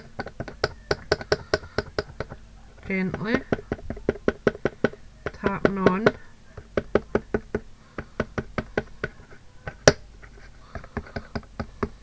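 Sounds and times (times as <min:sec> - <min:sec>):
applicator tapping paint: 0:00.0 - 0:12.0.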